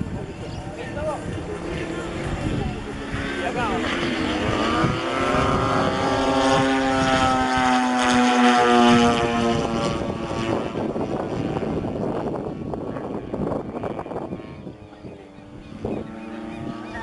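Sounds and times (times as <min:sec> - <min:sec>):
model airplane motor droning: 0:00.0 - 0:17.0.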